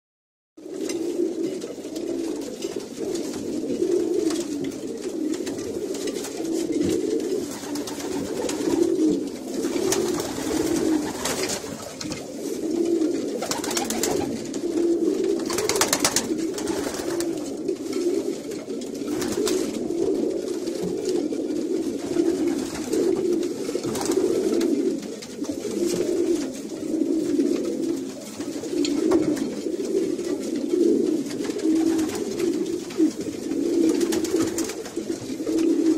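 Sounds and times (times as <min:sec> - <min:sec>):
pigeons cooing: 0:00.6 - 0:35.9.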